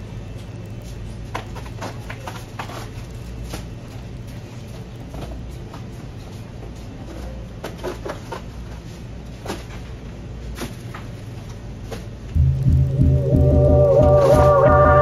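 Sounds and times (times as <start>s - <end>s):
steady low hum: 0.0s - 7.0s, 8.9s - 15.0s.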